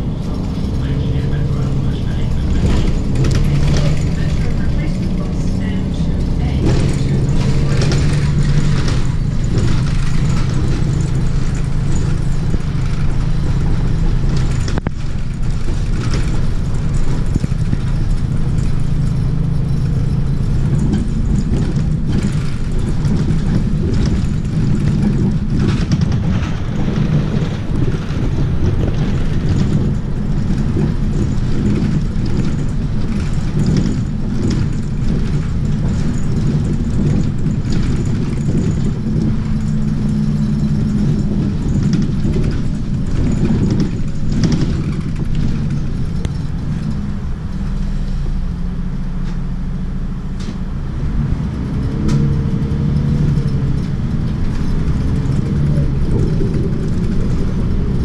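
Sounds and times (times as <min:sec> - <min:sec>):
bus engine hum: 0:00.0 - 0:58.0
road rumble: 0:00.0 - 0:58.0.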